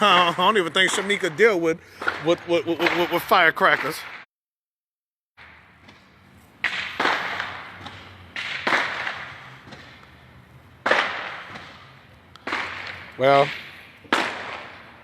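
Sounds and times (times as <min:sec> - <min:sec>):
distant explosive bangs: 0:00.0 - 0:04.3, 0:05.4 - 0:15.0.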